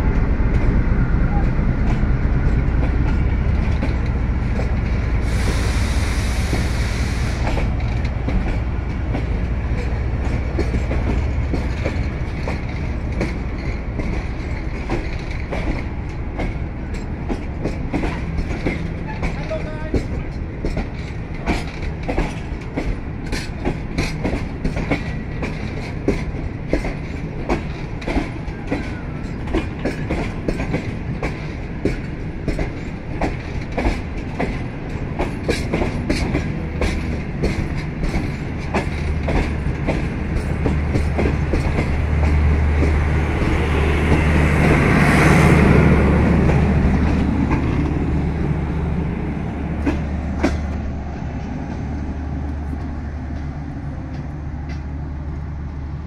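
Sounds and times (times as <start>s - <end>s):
train wheels clacking: 0.0s - 55.0s
train rumble: 0.0s - 56.0s.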